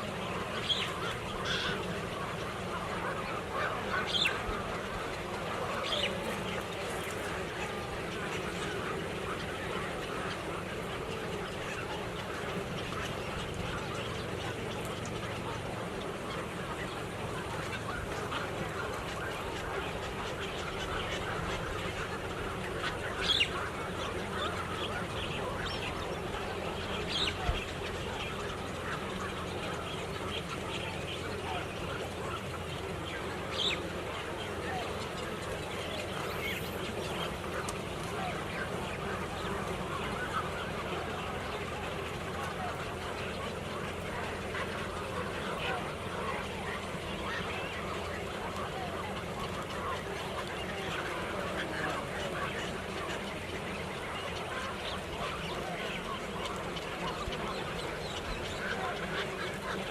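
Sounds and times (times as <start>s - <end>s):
flock of birds calling: 0.0s - 59.9s
sharp bird calls: 0.0s - 59.9s.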